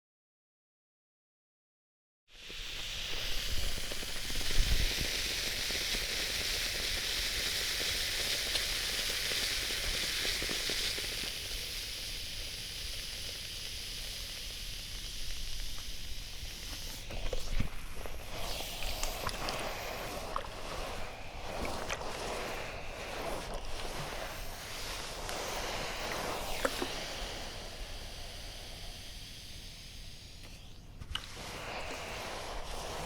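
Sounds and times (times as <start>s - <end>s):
steam iron hissing: 2.3s - 33.0s.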